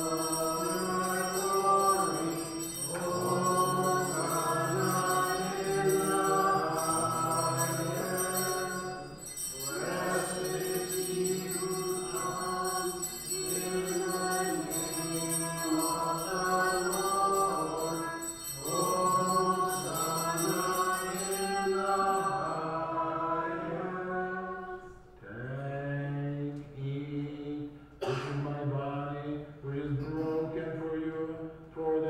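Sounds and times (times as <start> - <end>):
liturgical chant singing: 0.0 - 32.0.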